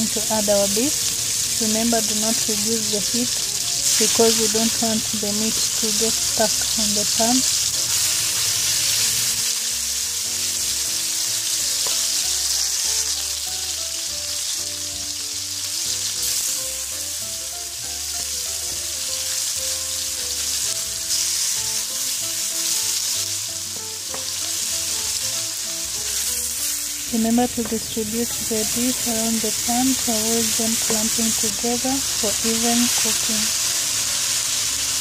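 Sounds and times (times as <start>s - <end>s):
meat sizzling in hot oil: 0.0s - 35.0s.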